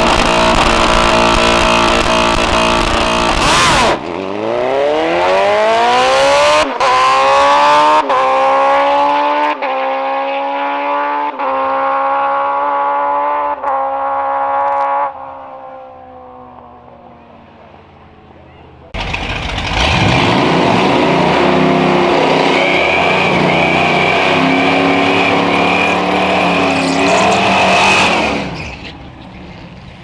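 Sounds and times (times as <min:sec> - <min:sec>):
drag racing car accelerating: 0:00.0 - 0:16.8, 0:18.9 - 0:30.0.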